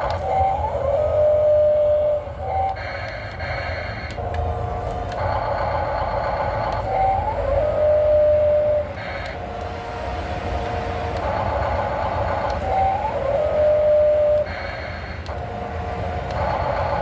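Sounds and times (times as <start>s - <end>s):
model excavator electric drive whining: 0.0s - 17.0s.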